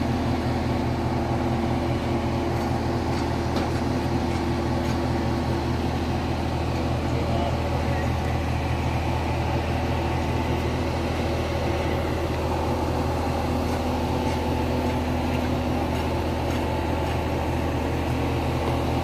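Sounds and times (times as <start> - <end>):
mobile crane engine humming: 0.0 - 19.0.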